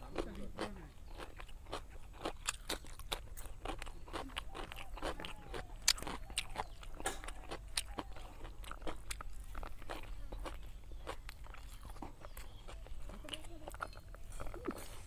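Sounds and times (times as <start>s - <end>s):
chewing: 0.0s - 15.0s
cucumber crunching bites: 0.1s - 15.0s.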